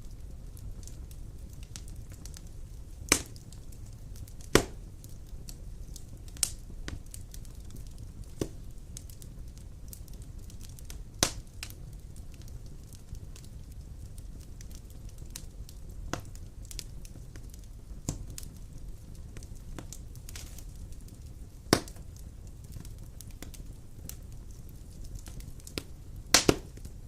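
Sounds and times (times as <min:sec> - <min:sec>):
fire crackling: 0:00.0 - 0:27.0
fire flames rumbling: 0:00.0 - 0:27.0
wood fire popping: 0:00.0 - 0:27.0.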